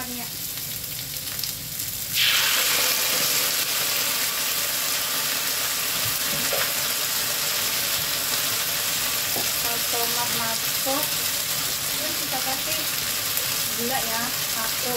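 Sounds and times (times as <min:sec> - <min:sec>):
vegetables sizzling in oil: 0:00.0 - 0:14.9.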